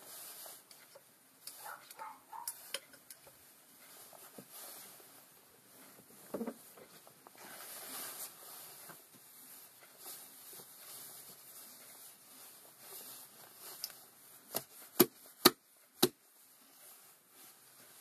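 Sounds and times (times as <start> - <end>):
cloth rustling: 0.0 - 18.0.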